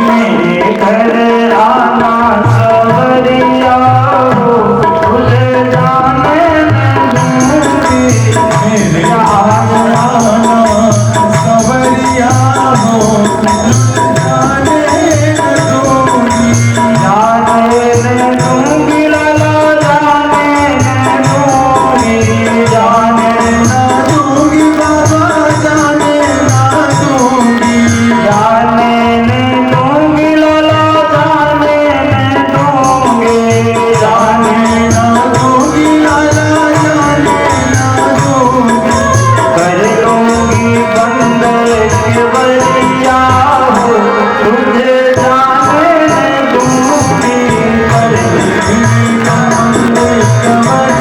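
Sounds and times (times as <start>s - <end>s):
hand drum beat: 0.0s - 51.0s
jingling percussion: 0.0s - 51.0s.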